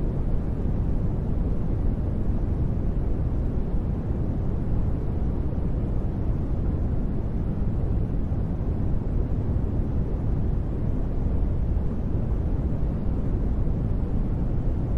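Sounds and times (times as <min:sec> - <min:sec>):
deep white noise: 0:00.0 - 0:14.9.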